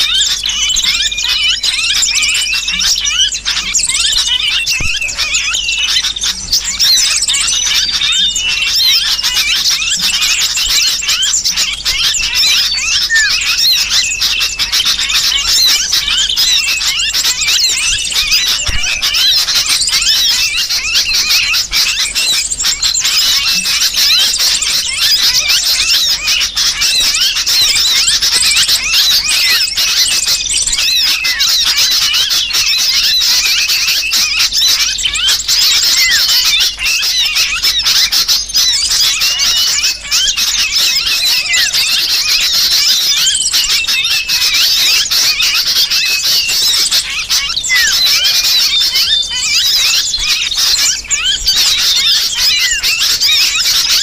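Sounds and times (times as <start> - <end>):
small birds chirping and squealing: 0.0 - 54.0.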